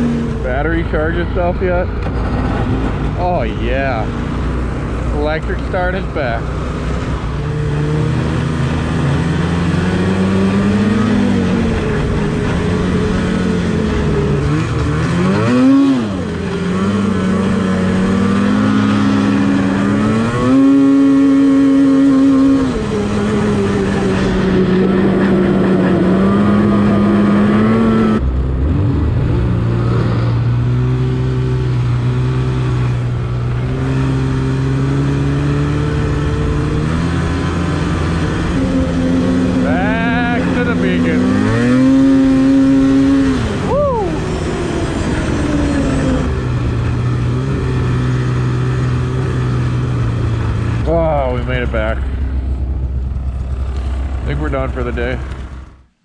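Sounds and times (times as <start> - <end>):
snowmobile engine revving: 0.0 - 55.8.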